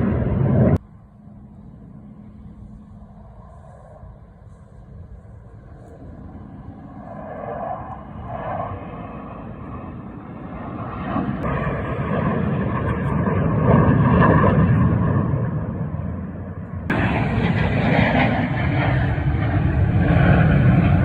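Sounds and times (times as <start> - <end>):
airplane flying by: 0.0 - 21.0.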